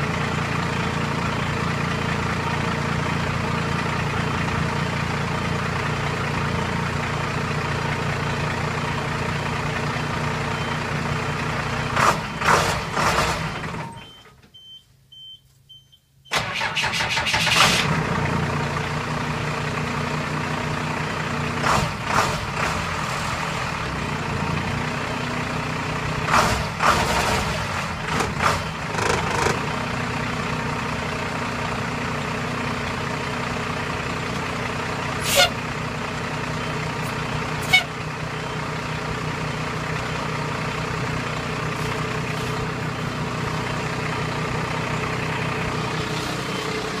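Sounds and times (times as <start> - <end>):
diesel engine idling: 0.0 - 15.2, 16.3 - 47.0.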